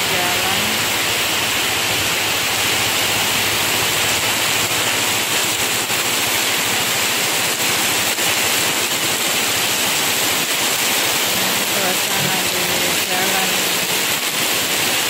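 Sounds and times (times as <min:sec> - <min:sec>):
heavy rain on a street: 0:00.0 - 0:15.0.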